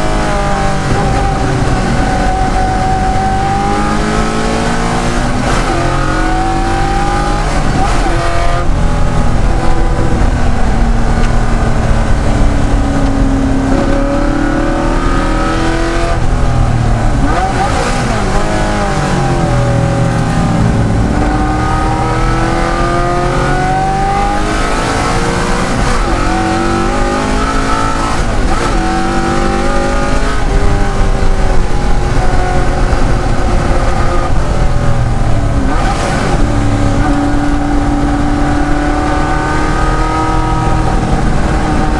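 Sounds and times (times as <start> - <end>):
race engine revving through gears: 0.0 - 41.9.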